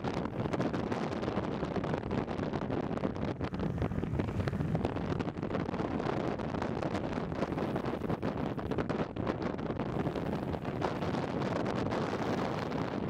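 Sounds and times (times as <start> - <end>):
wind buffeting microphone: 0.0 - 13.0
longboard wheels rolling on asphalt: 0.2 - 13.0.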